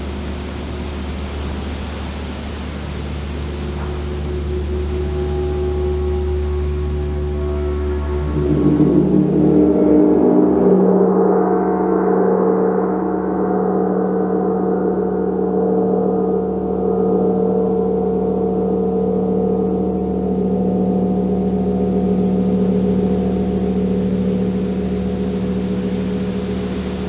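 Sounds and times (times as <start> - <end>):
gong ringing: 3.6 - 27.0.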